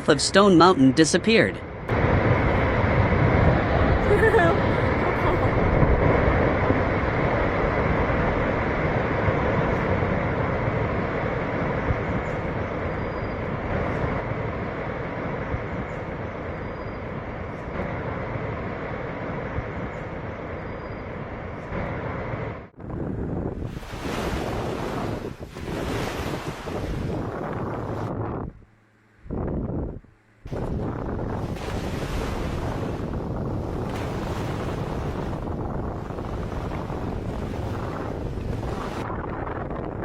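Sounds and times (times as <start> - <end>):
landslide rumble: 0.0 - 28.2, 30.5 - 40.0.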